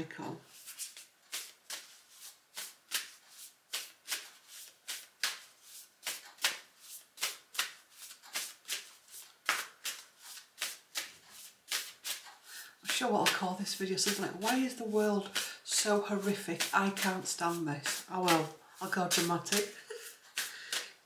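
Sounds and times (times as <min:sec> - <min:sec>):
cards being shuffled: 0:00.5 - 0:21.0.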